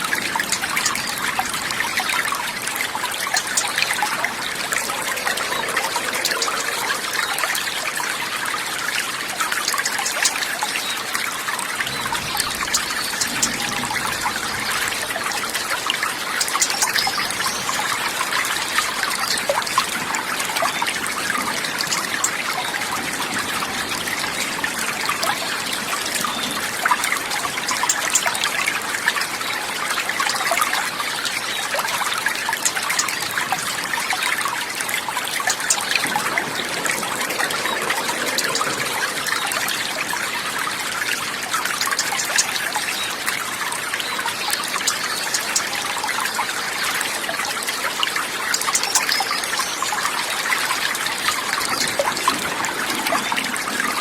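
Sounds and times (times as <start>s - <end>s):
running water trickling: 0.0s - 54.0s.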